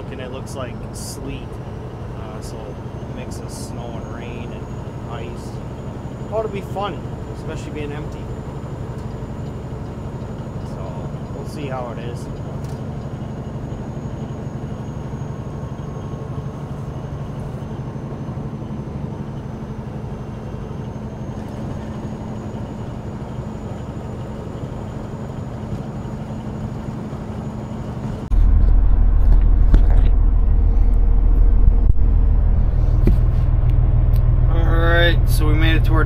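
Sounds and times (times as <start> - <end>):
deep steady rumble: 0.0 - 36.0
truck engine and road drone: 0.0 - 36.0
faint high whine: 2.2 - 36.0.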